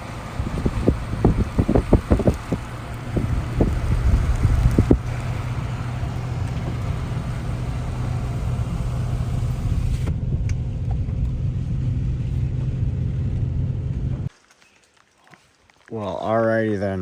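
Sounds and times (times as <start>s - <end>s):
engine and road rumble: 0.0s - 14.3s.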